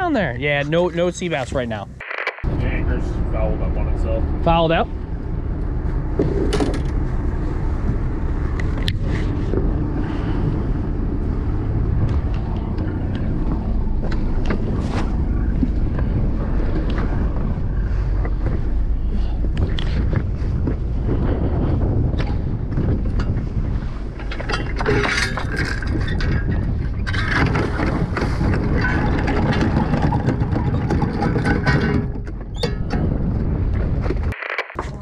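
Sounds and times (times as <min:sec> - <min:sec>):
boat engine running: 0:01.9 - 0:34.4
wind on microphone: 0:02.4 - 0:35.0.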